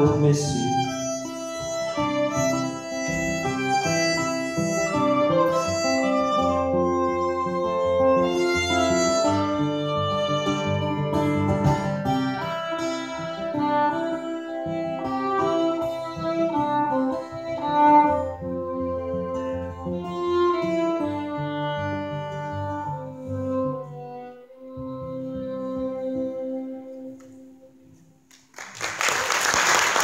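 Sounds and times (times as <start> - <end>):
acoustic guitar plucking: 0.0 - 28.0
bowed fiddle melody: 0.0 - 28.1.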